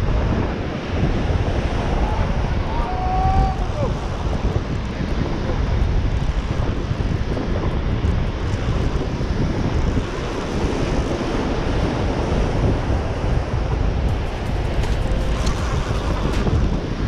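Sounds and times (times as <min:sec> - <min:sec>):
breaking surf: 0:00.0 - 0:17.0
wind buffeting microphone: 0:00.0 - 0:17.0.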